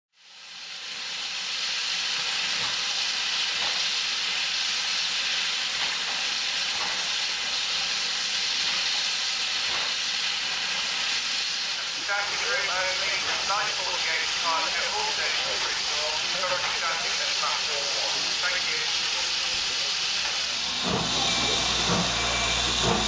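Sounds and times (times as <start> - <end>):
steam hissing from locomotive: 0.2 - 23.0.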